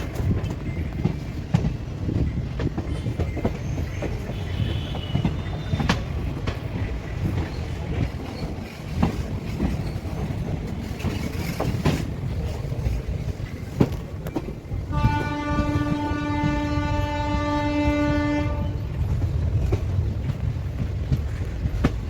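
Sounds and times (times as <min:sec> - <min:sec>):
train rumbling on rails: 0:00.0 - 0:22.0
wheels clacking over rail joints: 0:00.0 - 0:22.0.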